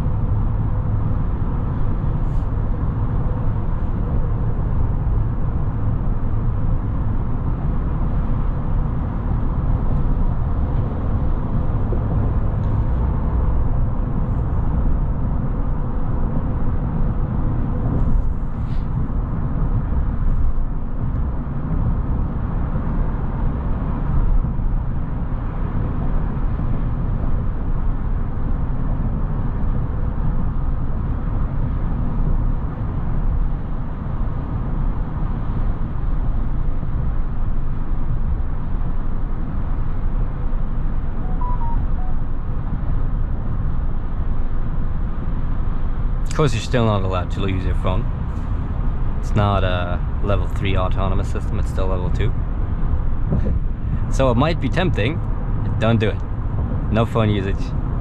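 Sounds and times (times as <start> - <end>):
road and wind noise in cabin: 0.0 - 58.0.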